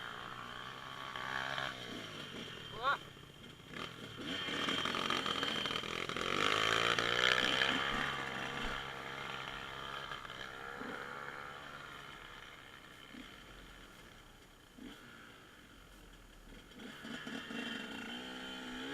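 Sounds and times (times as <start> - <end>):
dirt bike engine revving: 0.0 - 14.0, 14.8 - 15.7, 16.5 - 18.9.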